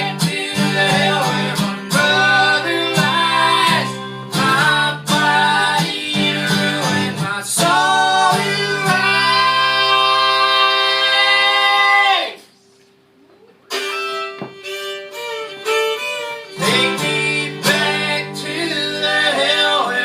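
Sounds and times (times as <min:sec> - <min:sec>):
voices singing: 0:00.0 - 0:12.5, 0:16.4 - 0:20.0
acoustic guitar: 0:00.0 - 0:20.0.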